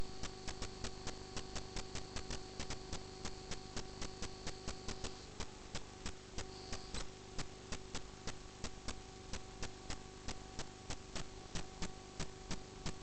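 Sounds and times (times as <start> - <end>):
electrical hum: 0.0 - 13.0
rapid regular clicking: 0.2 - 13.0.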